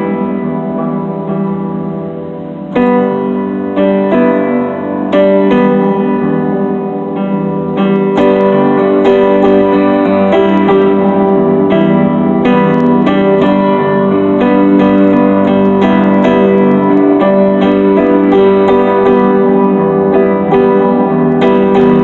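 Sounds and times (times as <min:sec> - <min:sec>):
electric keyboard piano chords: 0:00.0 - 0:22.0.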